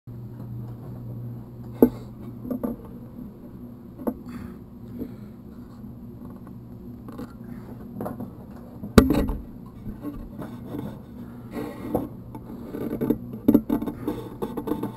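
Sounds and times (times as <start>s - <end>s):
low hum: 0.1s - 14.9s.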